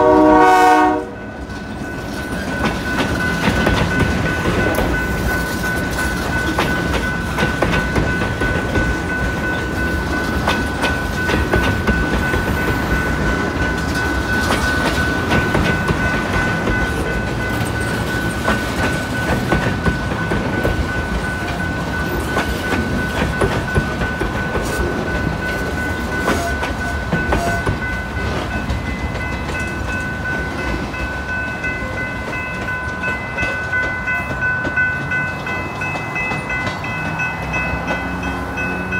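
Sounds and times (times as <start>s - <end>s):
crossing warning bell: 0.0s - 38.9s
higher ringing bell: 0.0s - 38.9s
train cars rumbling past: 0.0s - 38.9s
wheels clicking over rail joints: 1.3s - 38.9s.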